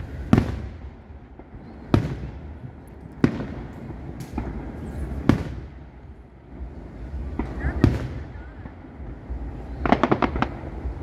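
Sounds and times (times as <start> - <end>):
fireworks bangs with echo: 0.0 - 11.0.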